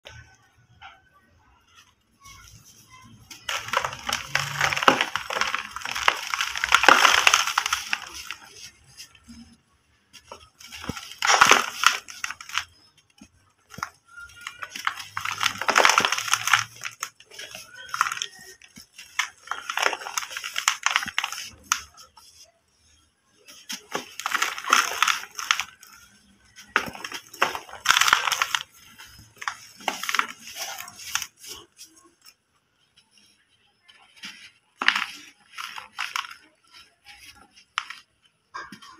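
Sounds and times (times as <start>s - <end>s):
brick dust crunching by hand: 2.5s - 9.6s, 10.2s - 22.2s, 23.5s - 32.2s, 34.7s - 38.9s.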